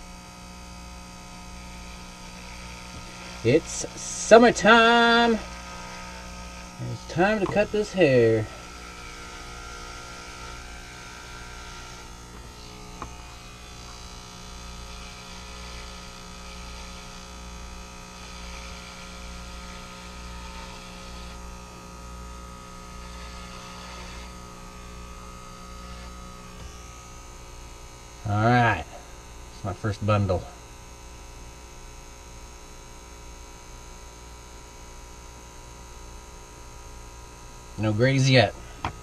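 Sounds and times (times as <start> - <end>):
clippers rasping through hair: 0.0 - 39.0
electric hair clippers buzzing: 0.0 - 39.0.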